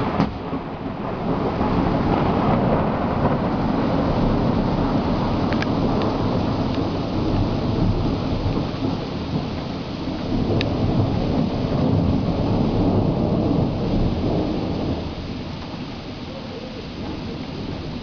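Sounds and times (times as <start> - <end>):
low rumbling thunder: 0.0 - 18.0
steady rain: 0.0 - 18.0.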